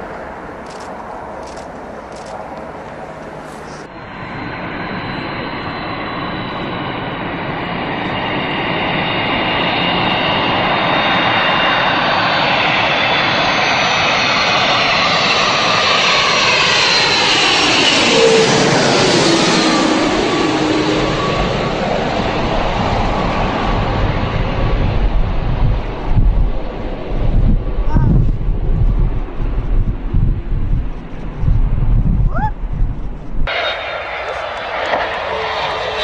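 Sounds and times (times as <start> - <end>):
aircraft engines whining: 0.0 - 36.0.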